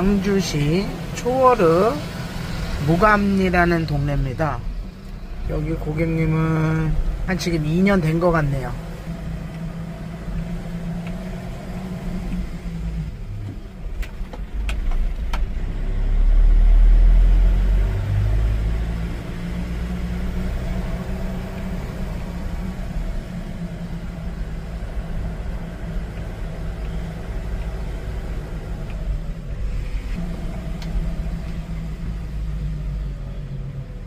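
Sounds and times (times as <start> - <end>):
road rumble: 0.0 - 34.0
vehicle engine running: 0.0 - 34.0.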